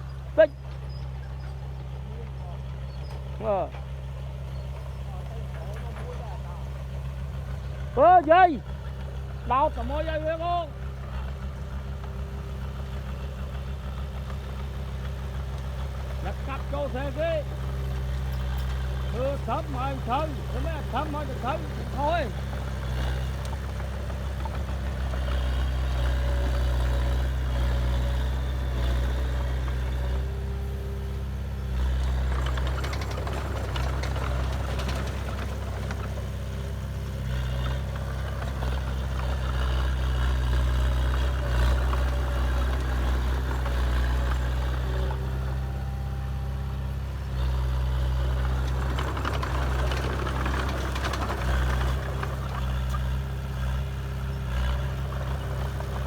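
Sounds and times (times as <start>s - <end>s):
heavy diesel engine droning: 0.0s - 56.0s
rattling and clatter: 0.6s - 30.7s, 31.4s - 45.9s, 46.8s - 56.0s.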